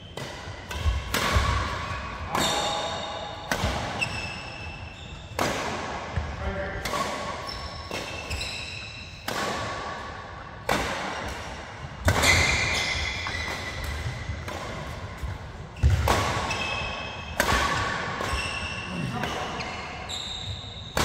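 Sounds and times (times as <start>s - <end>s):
badminton racket hitting shuttlecock: 0.1s - 4.4s, 6.8s - 19.6s.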